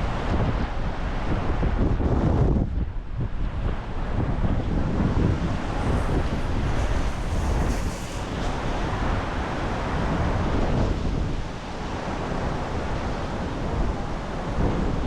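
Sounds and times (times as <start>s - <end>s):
big waves rushing: 0.0s - 15.0s
storm wind buffeting microphone: 0.0s - 15.0s.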